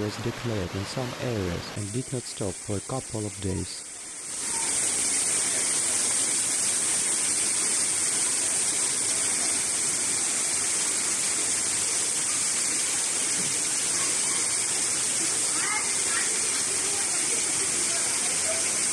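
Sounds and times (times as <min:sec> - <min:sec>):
water rushing: 0:00.0 - 0:18.9.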